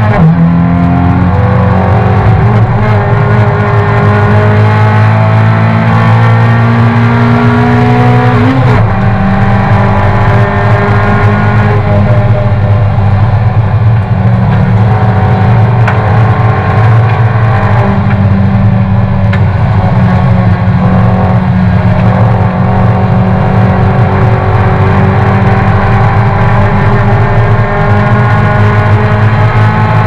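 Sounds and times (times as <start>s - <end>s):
race car engine running hard: 0.0s - 30.0s.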